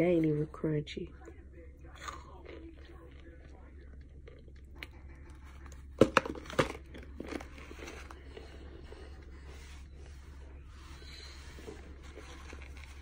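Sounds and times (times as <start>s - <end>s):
soft chewing crunches: 1.1s - 13.0s.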